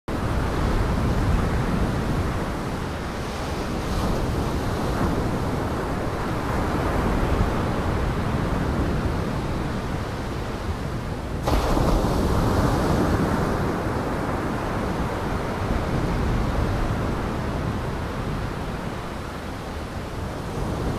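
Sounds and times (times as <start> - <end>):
wind: 0.1 - 20.9
surf rushing: 0.2 - 20.9.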